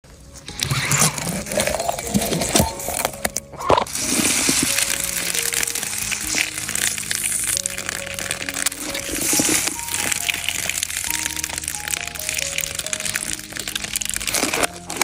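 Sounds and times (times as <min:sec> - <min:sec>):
slow held music notes: 0:00.1 - 0:15.0
wet latex crackling and squishing: 0:00.1 - 0:15.0.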